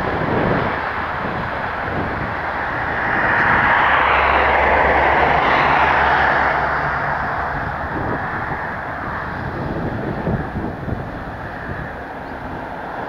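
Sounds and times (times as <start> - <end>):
aircraft engines passing: 0.0 - 13.0.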